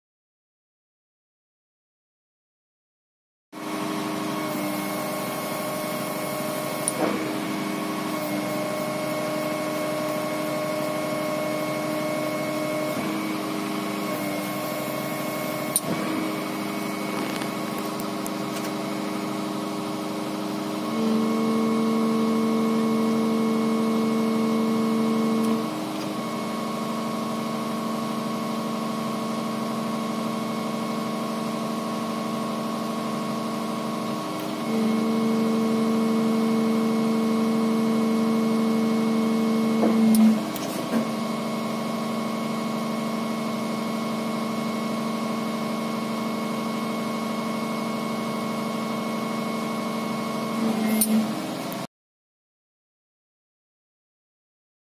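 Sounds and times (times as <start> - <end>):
machine engine and hydraulics humming: 3.6 - 51.9.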